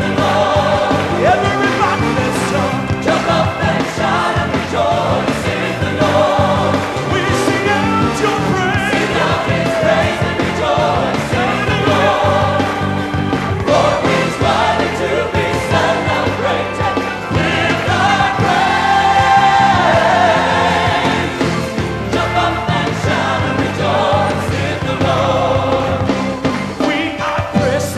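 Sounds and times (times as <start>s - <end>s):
band accompaniment: 0.0s - 27.9s
choir singing gospel song: 0.0s - 27.9s.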